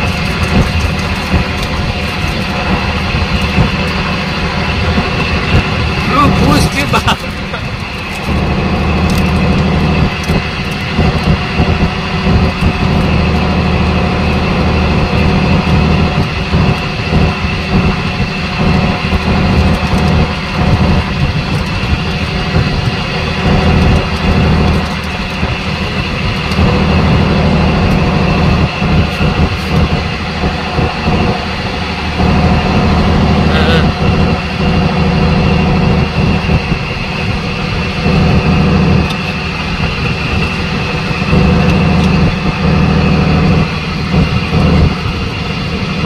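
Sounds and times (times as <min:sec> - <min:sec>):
boat engine droning: 0:00.0 - 0:46.0.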